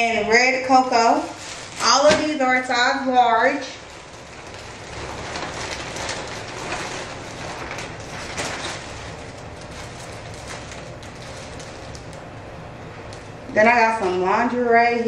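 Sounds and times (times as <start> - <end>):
plastic packaging crinkling: 0.7 - 13.3.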